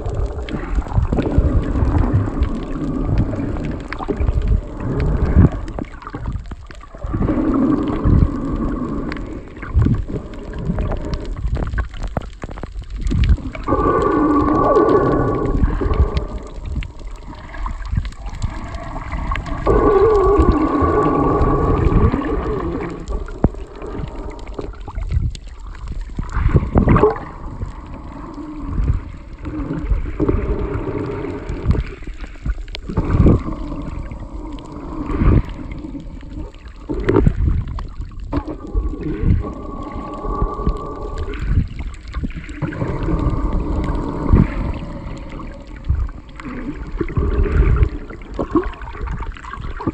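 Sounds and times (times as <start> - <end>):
underwater gurgling and sloshing: 0.0 - 49.9.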